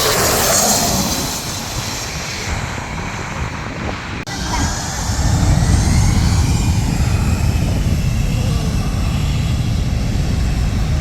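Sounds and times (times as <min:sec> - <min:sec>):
airplane passing low overhead: 0:00.0 - 0:11.0.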